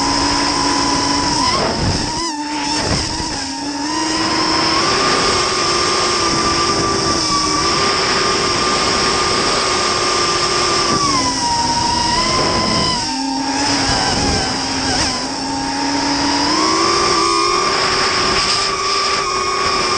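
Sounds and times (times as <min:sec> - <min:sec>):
drone propellers whining: 0:00.0 - 0:19.9.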